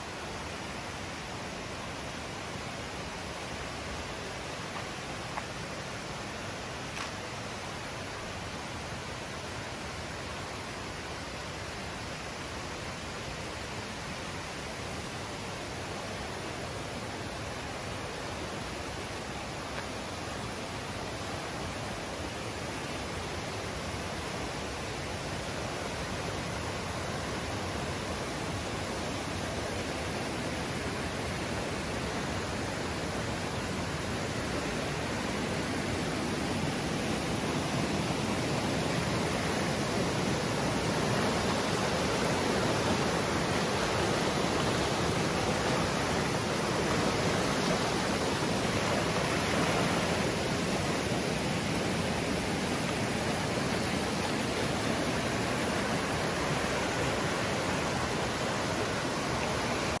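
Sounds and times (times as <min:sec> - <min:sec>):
stream rushing over rocks: 0:00.0 - 1:00.0.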